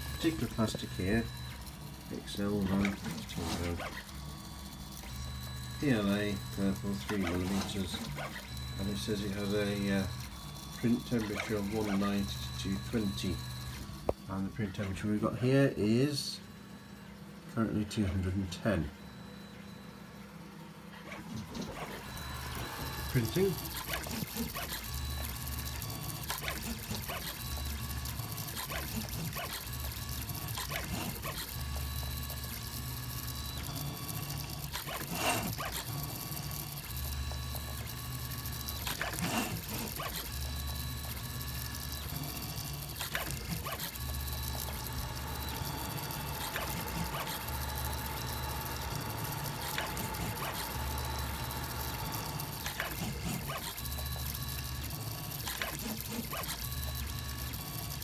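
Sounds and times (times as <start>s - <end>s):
printer stepper motors whining: 0.0s - 58.0s.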